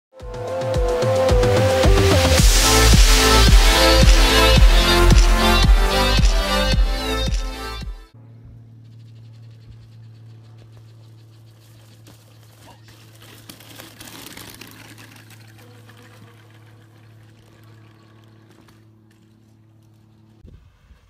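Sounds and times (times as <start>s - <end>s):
steady low hum: 2.4s - 20.4s.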